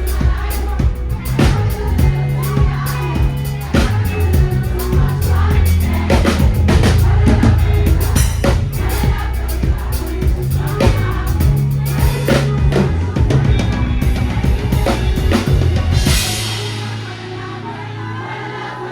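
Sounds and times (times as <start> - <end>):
drum kit: 0.0 - 17.5
band music: 0.0 - 18.9
sustained bass line: 0.0 - 18.9.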